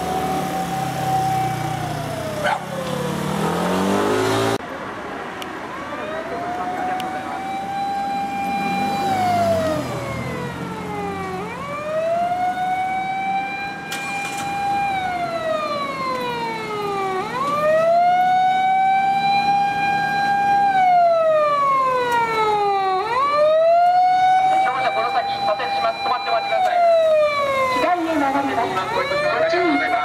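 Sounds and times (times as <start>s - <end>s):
fire engine siren wailing: 0.0s - 4.6s, 5.6s - 30.0s.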